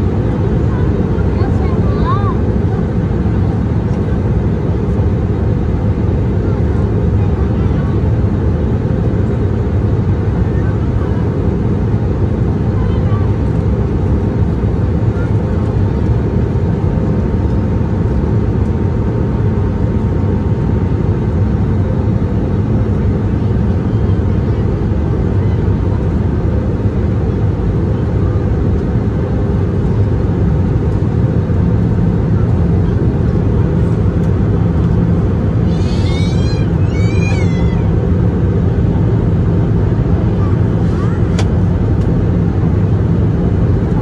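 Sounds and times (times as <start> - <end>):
engine and airflow roar: 0.0 - 44.0.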